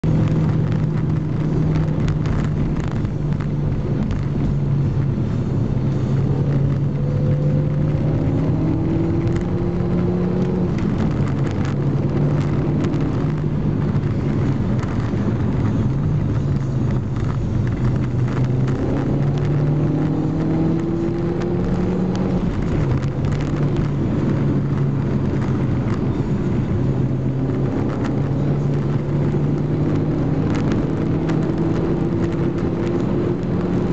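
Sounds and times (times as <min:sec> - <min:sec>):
car engine and tyre noise: 0:00.0 - 0:33.9.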